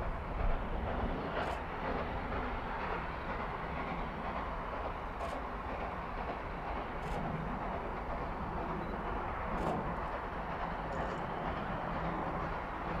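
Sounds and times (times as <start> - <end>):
steam locomotive exhaust rumble: 0.0 - 13.0.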